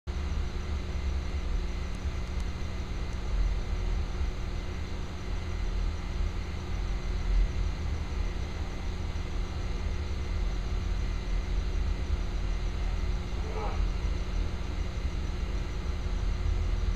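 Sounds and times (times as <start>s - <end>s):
faint even hum: 0.1s - 16.9s.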